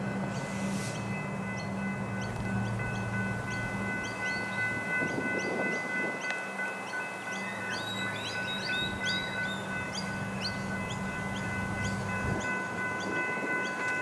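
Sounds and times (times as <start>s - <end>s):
electric train humming: 0.0s - 14.0s
birds chirping: 1.0s - 14.0s.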